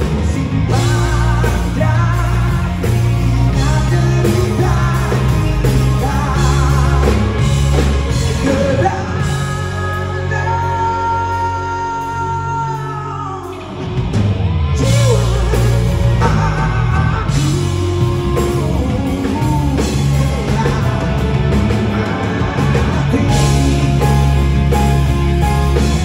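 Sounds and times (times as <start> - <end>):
man singing: 0.0 - 13.9, 14.8 - 26.0
rock band playing: 0.0 - 26.0.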